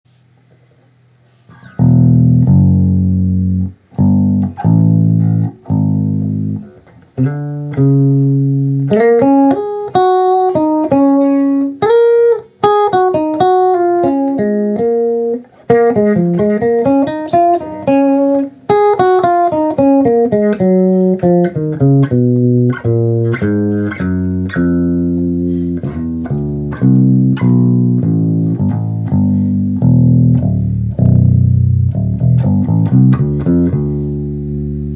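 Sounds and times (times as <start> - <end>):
electric bass plucked notes: 1.5 - 34.9.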